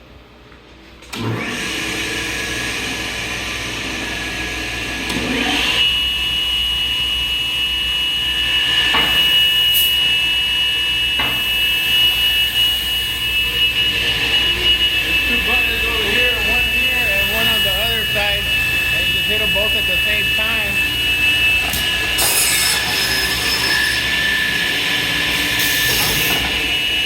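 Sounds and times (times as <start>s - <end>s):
saw motor high whine: 1.2s - 27.0s.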